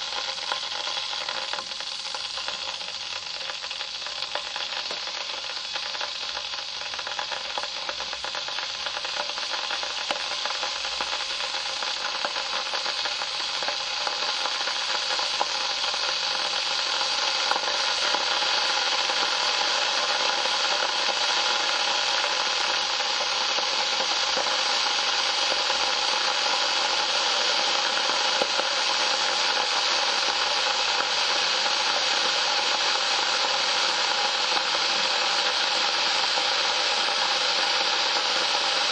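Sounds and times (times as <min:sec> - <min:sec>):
electric kettle heating water: 0:00.0 - 0:38.9.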